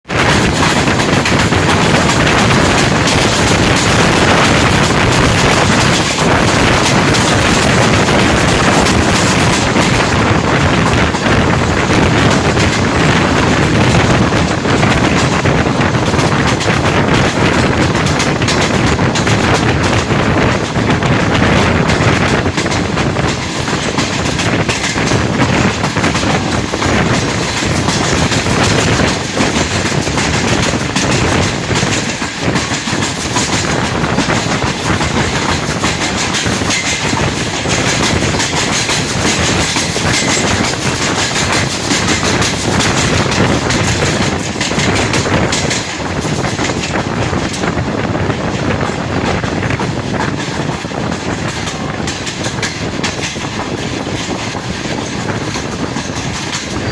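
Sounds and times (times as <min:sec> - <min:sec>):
train wheels rushing on rails: 0:00.0 - 0:56.9
wheels clacking over rail joints: 0:00.0 - 0:56.9.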